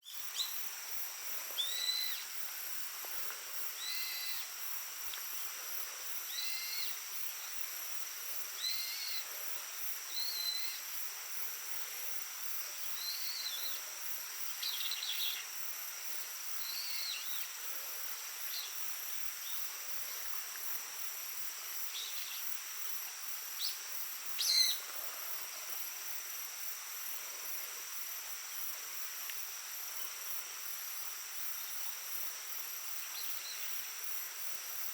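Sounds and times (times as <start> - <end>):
insect trill: 0.0 - 34.9.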